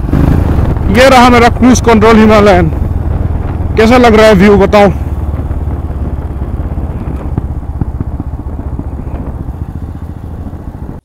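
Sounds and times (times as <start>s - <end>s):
motorcycle engine rumbling: 0.0s - 11.0s
wind rush: 0.0s - 11.0s.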